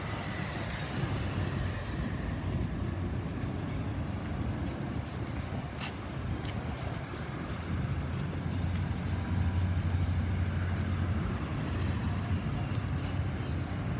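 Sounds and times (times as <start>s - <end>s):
jet engines rumbling overhead: 0.0s - 13.9s.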